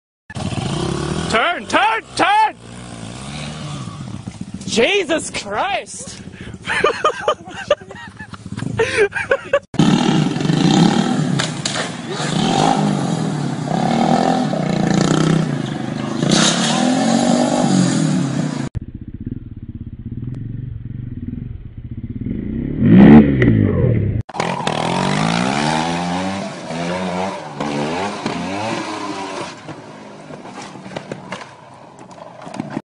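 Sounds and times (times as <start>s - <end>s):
motorcycle engines revving: 0.3s - 18.8s, 20.5s - 32.8s.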